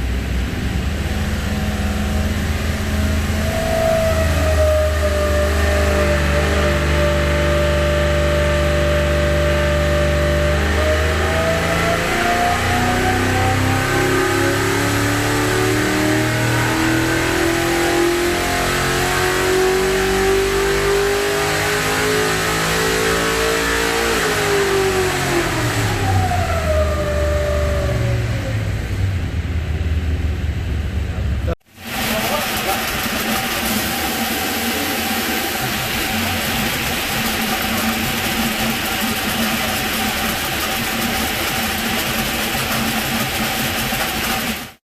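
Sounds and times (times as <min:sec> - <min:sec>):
race engine revving on dynamometer: 0:00.0 - 0:29.1, 0:31.5 - 0:44.8.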